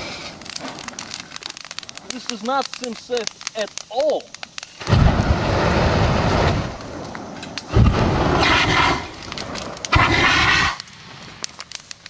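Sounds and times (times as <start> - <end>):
flamethrower blasts: 0.0 - 12.0.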